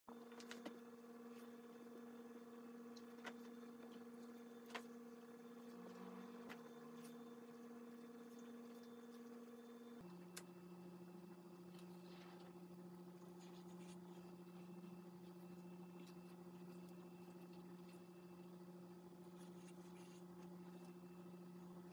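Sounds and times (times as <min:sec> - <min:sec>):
faint electrical hum: 0:00.1 - 0:21.9.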